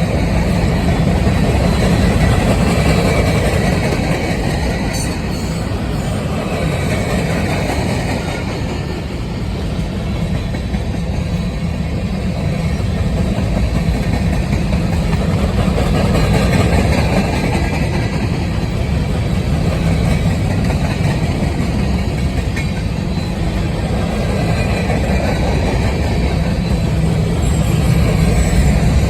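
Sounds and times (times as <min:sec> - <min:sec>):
diesel locomotive engine: 0:00.0 - 0:29.0
railcars rumbling over rails: 0:00.0 - 0:29.0.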